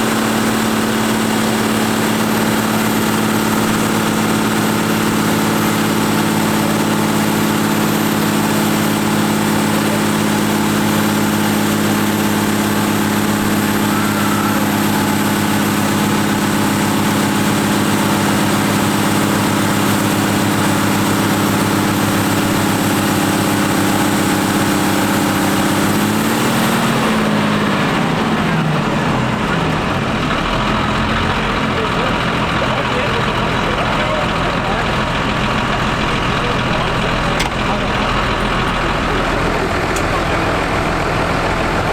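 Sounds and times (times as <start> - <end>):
tractor engine at high revs: 0.0 - 41.9.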